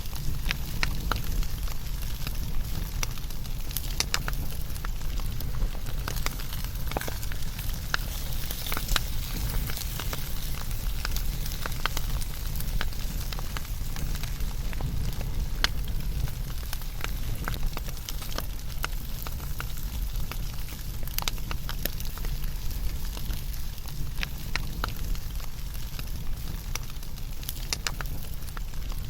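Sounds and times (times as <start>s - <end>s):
steady low fire rumble: 0.0s - 29.0s
wood fire crackling and popping: 0.0s - 29.0s.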